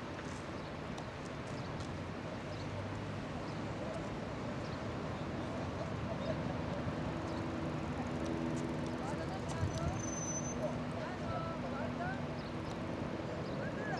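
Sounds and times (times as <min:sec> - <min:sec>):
distant turboprop engines droning: 0:01.6 - 0:13.9.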